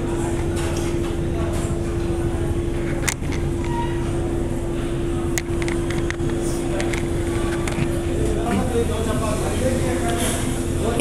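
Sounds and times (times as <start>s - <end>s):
room hum drone: 0.0s - 11.0s.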